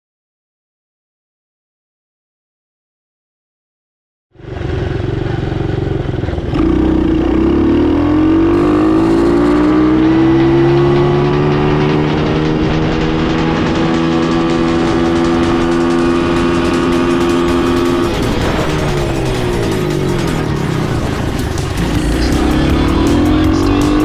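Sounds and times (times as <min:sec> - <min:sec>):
quad bike engine: 0:04.4 - 0:24.0.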